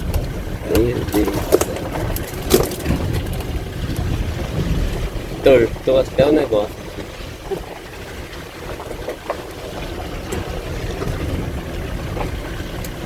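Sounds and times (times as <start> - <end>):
car rumbling on rough road: 0.0 - 13.0
knocks and rattles from bumps: 0.0 - 13.0.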